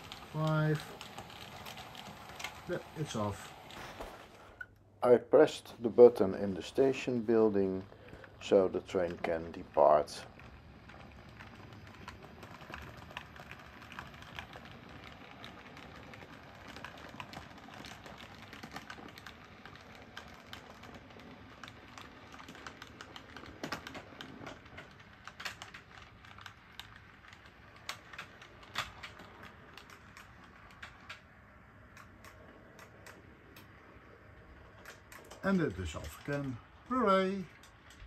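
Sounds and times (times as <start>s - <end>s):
model train wheels clicking: 0.0s - 38.0s.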